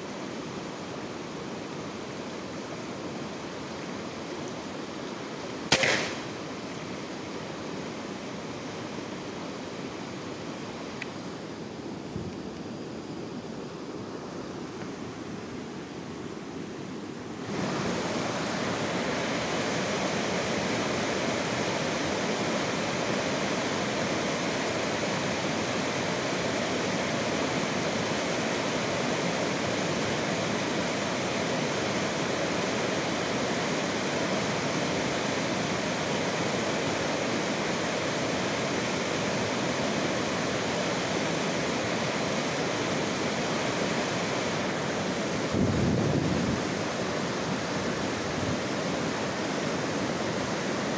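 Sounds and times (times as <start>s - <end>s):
steady rushing hiss: 0.0s - 50.9s.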